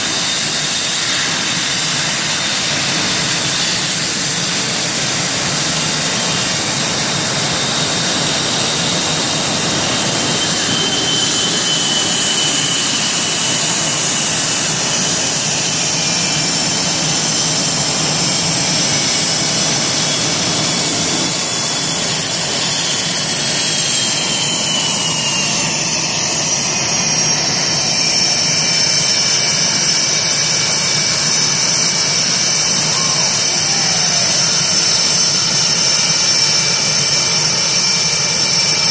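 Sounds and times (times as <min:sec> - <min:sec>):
high turbine whines: 0:00.0 - 0:38.9
jet engine roar: 0:00.0 - 0:38.9.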